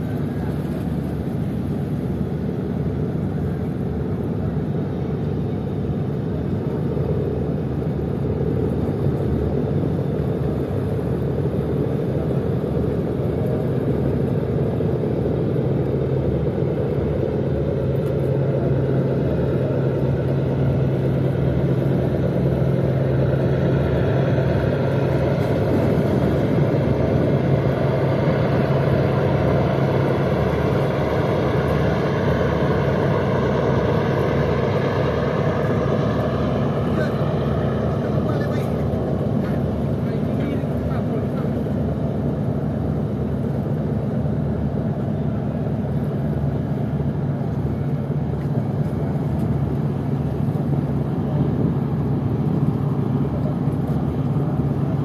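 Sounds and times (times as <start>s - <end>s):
ship engines rumbling: 0.0s - 55.0s
steady low hum: 0.0s - 55.0s.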